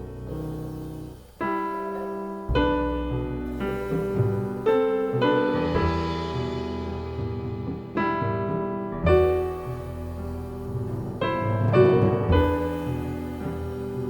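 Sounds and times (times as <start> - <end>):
low notes: 0.0 - 14.0
piano chords ringing: 0.0 - 14.0.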